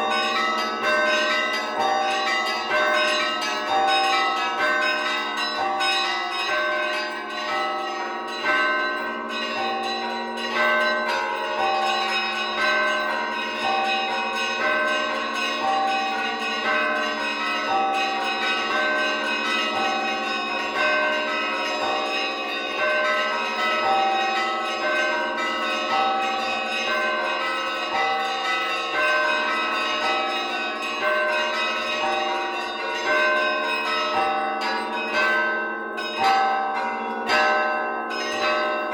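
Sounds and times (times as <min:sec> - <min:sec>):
large bells humming: 0:00.0 - 0:38.9
small church bells chiming: 0:00.0 - 0:38.9.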